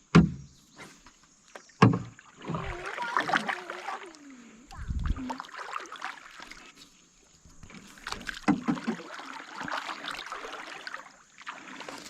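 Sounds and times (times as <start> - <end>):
water splashing and sloshing: 0.8 - 12.0.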